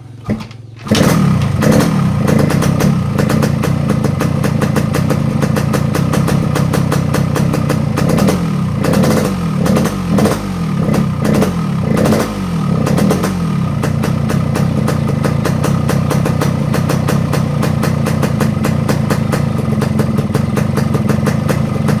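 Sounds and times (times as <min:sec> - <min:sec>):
motorcycle engine idling and revving: 0:00.2 - 0:22.0.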